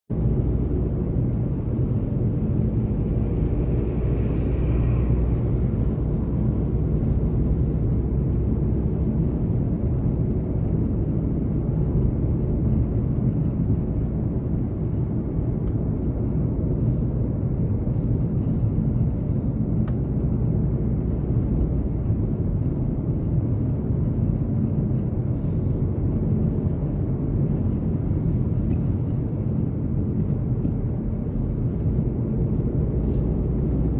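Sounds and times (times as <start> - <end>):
car engine and tyres rumbling: 0.1 - 33.9.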